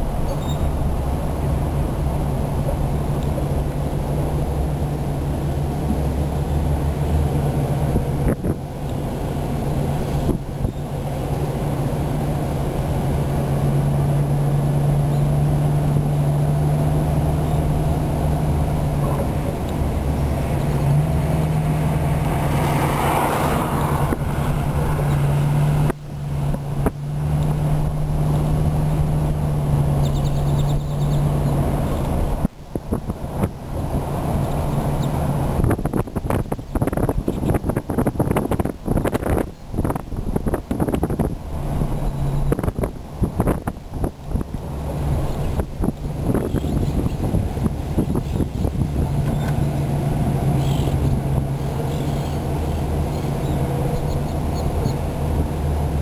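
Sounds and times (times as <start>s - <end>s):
vehicle engine and road drone: 0.0s - 56.0s.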